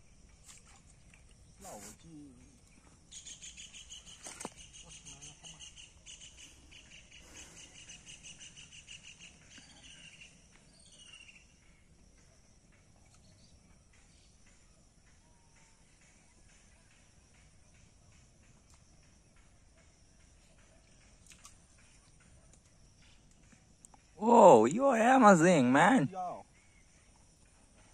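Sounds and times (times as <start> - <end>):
faint outdoor ambience: 0.0 - 27.9.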